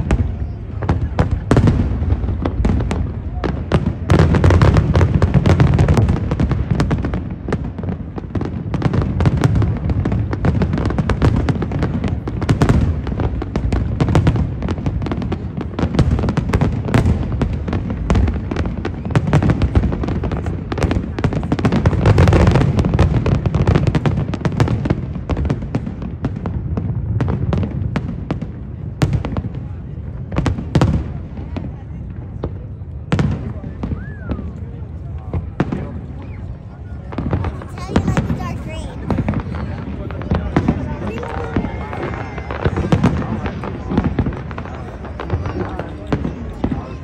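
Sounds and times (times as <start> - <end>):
fireworks bangs: 0.0 - 47.0.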